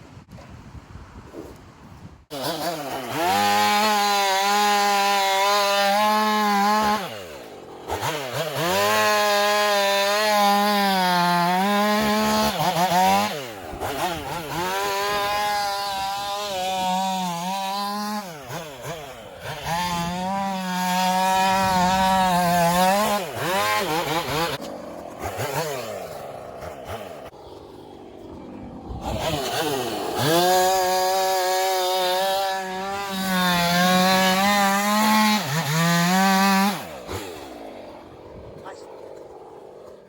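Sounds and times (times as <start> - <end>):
chainsaw cutting wood: 2.3 - 40.0.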